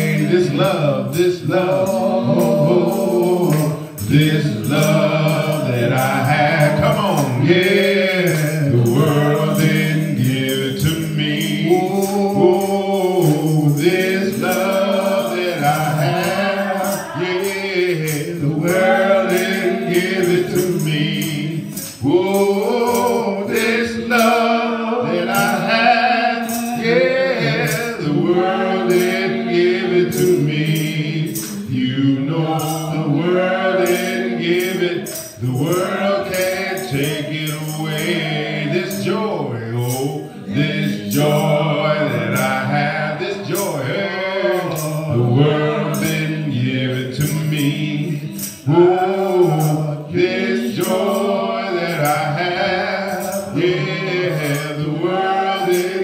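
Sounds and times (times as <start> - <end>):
man singing a hymn: 0.0 - 56.0
steady percussion beat: 0.0 - 56.0
voices singing along: 0.0 - 56.0.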